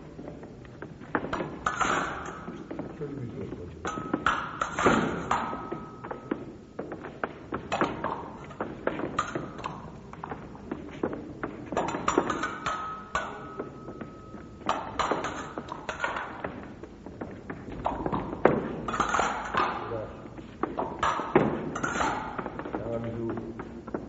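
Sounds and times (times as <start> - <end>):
fencing blades clashing: 0.2 - 3.0, 3.8 - 24.0.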